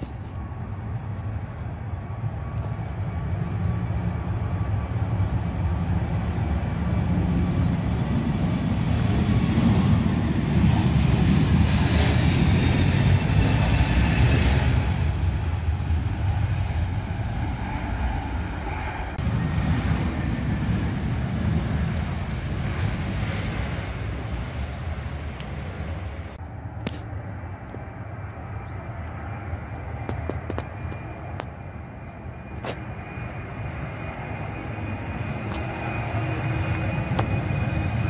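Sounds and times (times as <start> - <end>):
arriving jet rumble: 0.0 - 38.0
jet engines at takeoff: 0.0 - 38.0.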